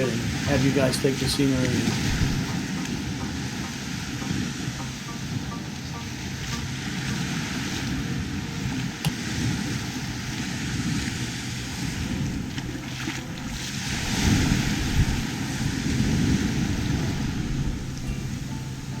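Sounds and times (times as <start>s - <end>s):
small waves washing onto shore: 0.0s - 19.0s
wind buffeting microphone: 0.0s - 19.0s.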